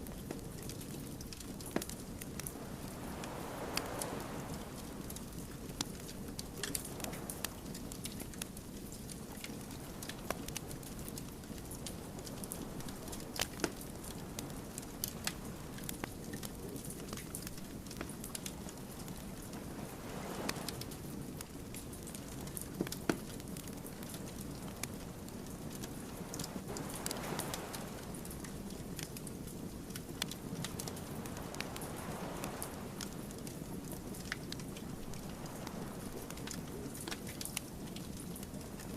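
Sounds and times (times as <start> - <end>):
wood fire crackling and popping: 0.0 - 38.9
low rush of flame: 0.2 - 22.8, 23.4 - 38.9.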